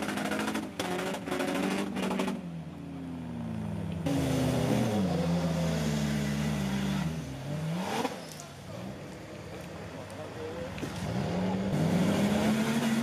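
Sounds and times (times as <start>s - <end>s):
off-road engines under load: 0.0s - 13.0s.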